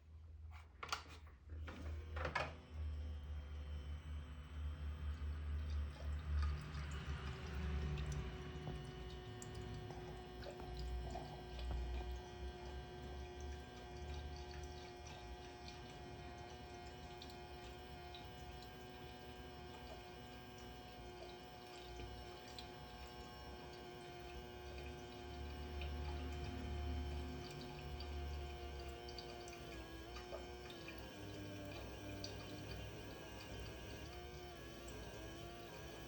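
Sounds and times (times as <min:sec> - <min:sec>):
faint pump hum: 0:00.0 - 0:36.0
water trickling and dripping: 0:04.6 - 0:36.0.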